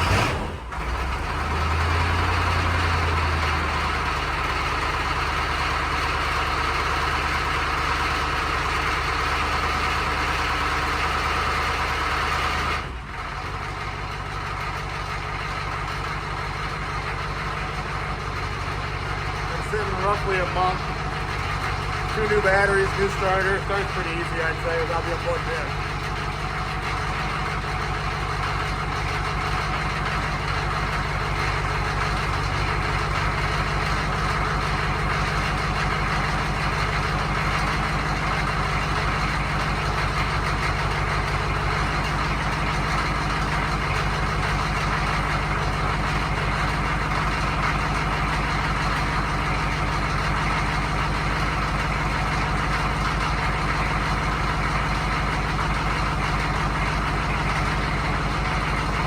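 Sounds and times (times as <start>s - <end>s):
diesel engine idling with ticking: 0.0s - 59.0s.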